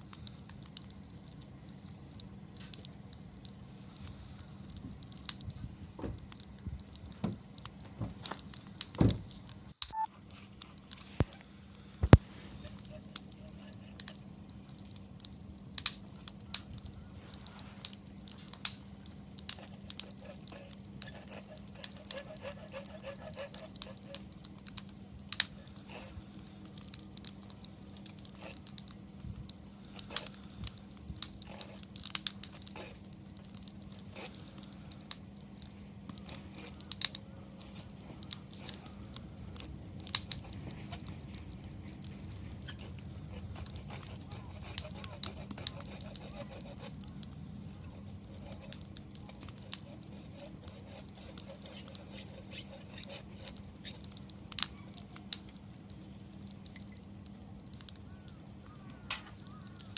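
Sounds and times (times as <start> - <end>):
faint low hum: 0.0 - 59.8
wood fire crackling: 0.0 - 59.9.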